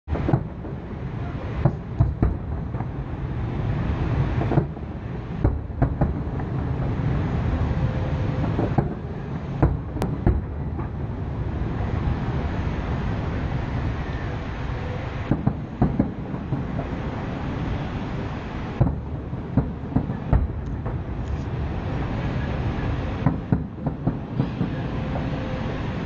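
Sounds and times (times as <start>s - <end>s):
fireworks bursting: 0.1s - 26.0s.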